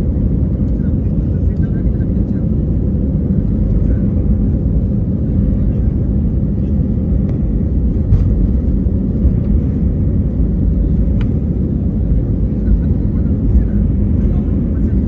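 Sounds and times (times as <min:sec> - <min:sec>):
airplane taking off: 0:00.0 - 0:15.0.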